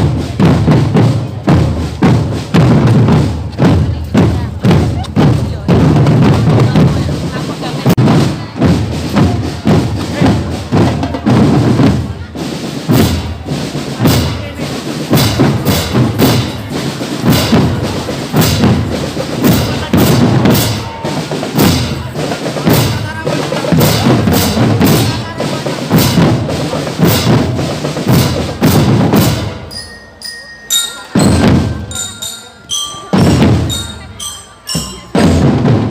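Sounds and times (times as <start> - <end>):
loud drum strikes: 0.0 - 29.9, 30.7 - 35.9
percussion-led band music: 0.0 - 35.9.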